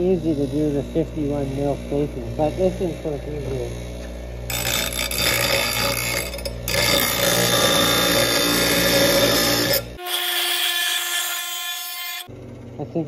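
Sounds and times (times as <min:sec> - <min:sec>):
grinder grinding steel: 0:00.0 - 0:12.3
grinder motor hum: 0:00.0 - 0:13.0.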